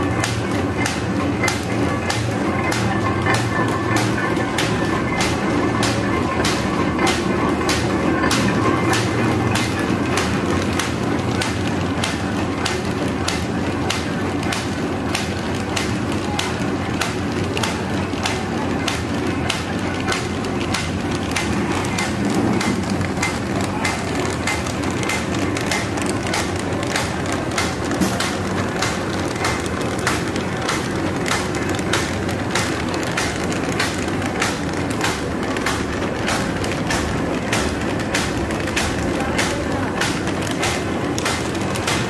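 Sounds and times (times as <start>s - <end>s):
machine rumble of gears and rollers: 0.0s - 42.0s
sharp regular machine clacks: 0.0s - 42.0s.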